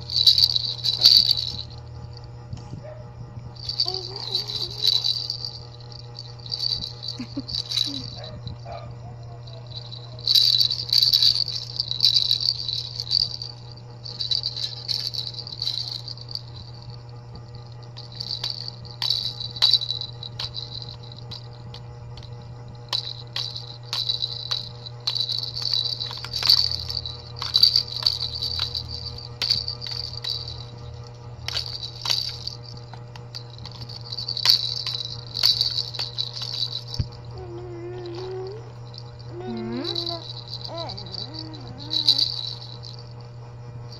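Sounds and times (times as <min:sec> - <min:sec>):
baby rattle beads rattling: 0:00.0 - 0:02.3, 0:03.5 - 0:43.2.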